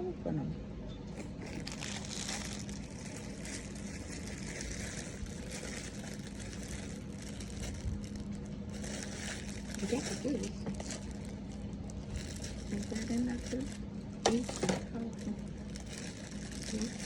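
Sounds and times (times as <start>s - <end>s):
steady low hum: 0.0s - 17.0s
plastic packaging crinkling: 1.2s - 17.0s.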